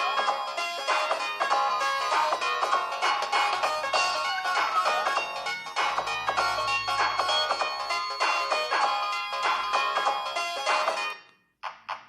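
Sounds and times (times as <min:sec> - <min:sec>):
electronic phone ringtone: 0:00.0 - 0:11.4.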